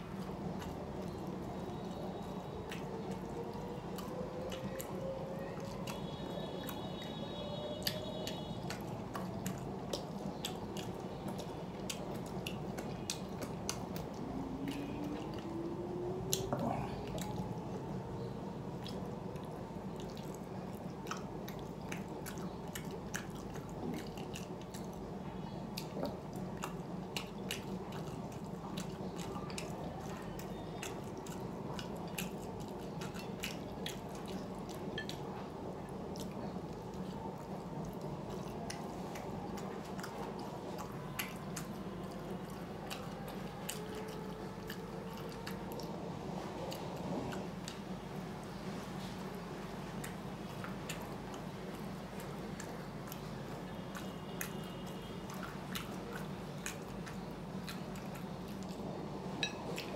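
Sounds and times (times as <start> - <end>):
chewing with wet mouth clicks: 0.0 - 59.9
low background hum: 0.0 - 59.9.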